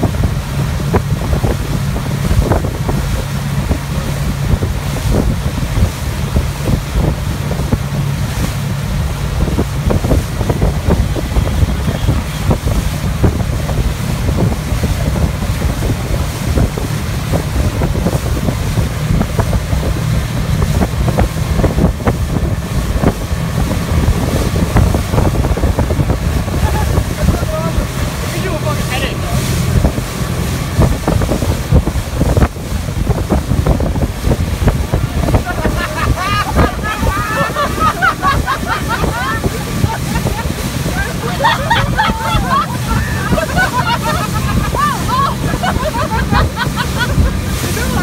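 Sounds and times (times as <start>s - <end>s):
motorboat engine drone: 0.0s - 48.0s
rush of churning wake: 0.0s - 48.0s
wind buffeting microphone: 0.0s - 48.0s.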